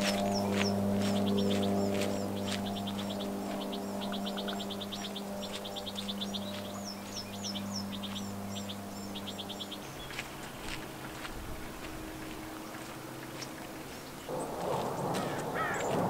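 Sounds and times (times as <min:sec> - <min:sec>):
songbirds trilling: 0:00.0 - 0:16.0
steady low hum: 0:00.0 - 0:16.0.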